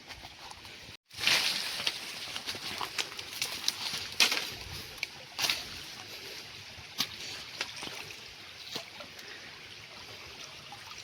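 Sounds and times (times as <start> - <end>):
stream trickling: 0.1 - 11.0.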